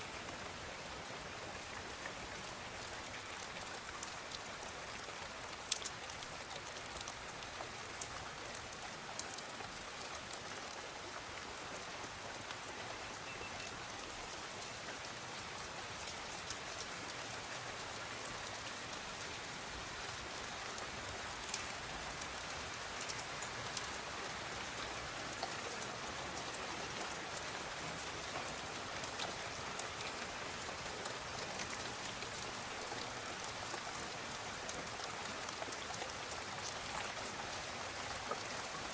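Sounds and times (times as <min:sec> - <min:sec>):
steady rainfall hiss: 0:00.0 - 0:38.9
raindrops ticking: 0:00.2 - 0:38.9.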